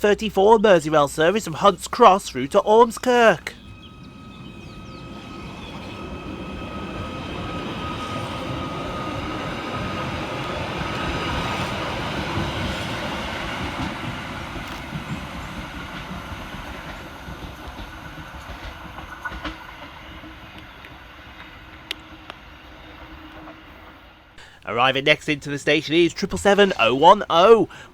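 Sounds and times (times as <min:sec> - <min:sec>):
train high whine: 0:00.0 - 0:27.9
train wheels on rails: 0:00.0 - 0:27.9.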